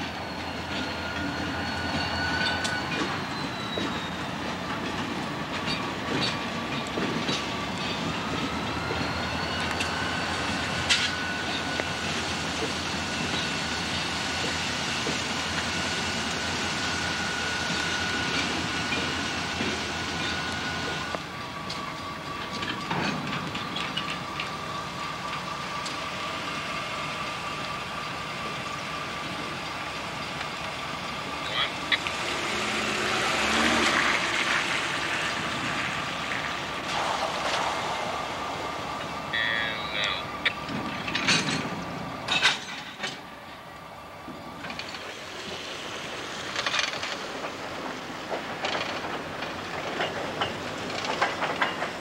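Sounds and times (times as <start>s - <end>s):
freight cars rolling on rails: 0.0s - 52.0s.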